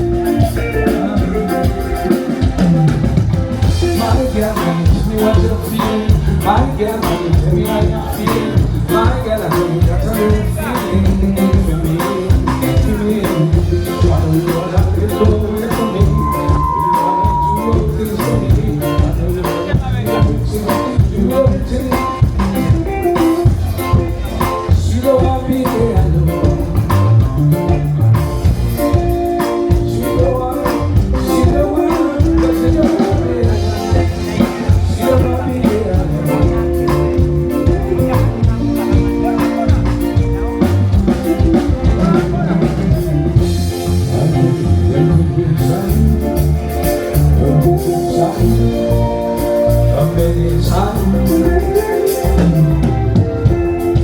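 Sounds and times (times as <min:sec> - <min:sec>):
loud band music: 0:00.0 - 0:54.0
person singing: 0:00.0 - 0:54.0.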